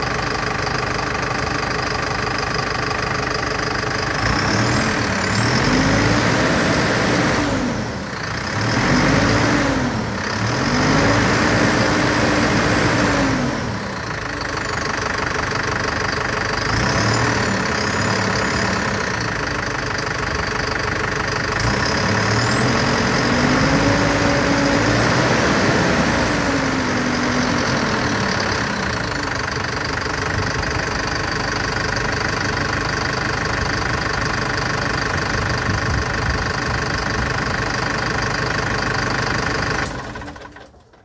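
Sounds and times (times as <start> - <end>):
street sweeper engine running: 0.0 - 41.0.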